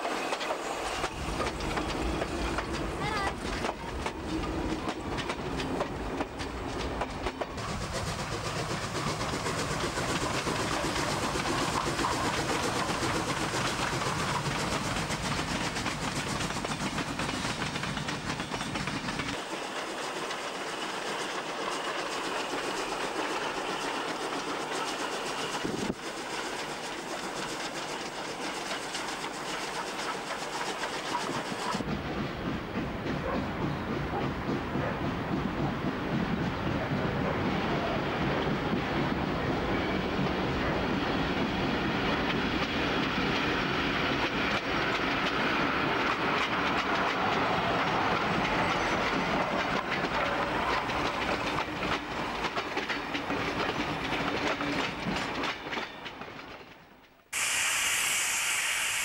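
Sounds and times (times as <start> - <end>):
train wheels clattering over rail joints: 0.0 - 57.2.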